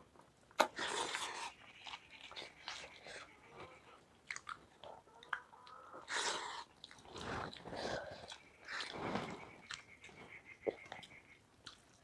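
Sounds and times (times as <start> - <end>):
chewing and smacking: 0.6 - 3.2, 4.2 - 12.0.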